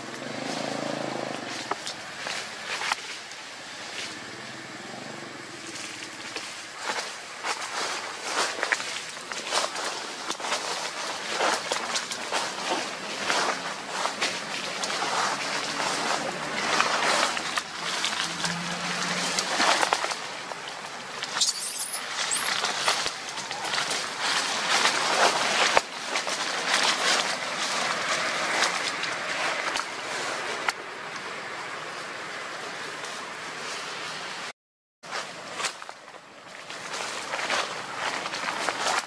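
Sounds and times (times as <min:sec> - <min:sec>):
dry leaves rustling and crackling: 0:00.0 - 0:34.5, 0:35.1 - 0:39.0.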